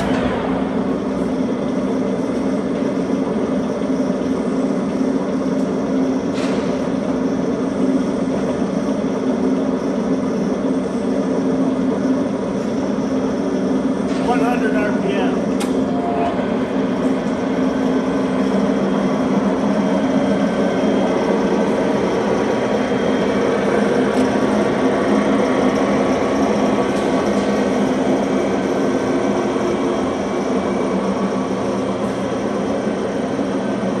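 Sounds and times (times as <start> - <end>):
lathe humming and whining: 0.0 - 34.0.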